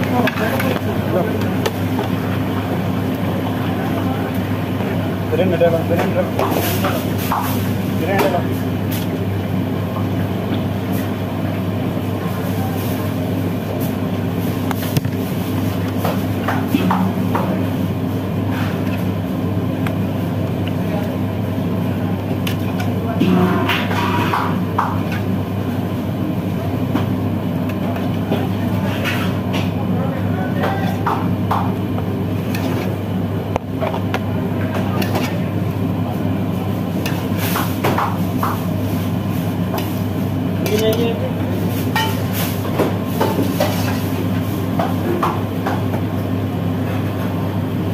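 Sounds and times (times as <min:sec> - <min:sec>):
extractor hood droning hum: 0:00.0 - 0:47.9.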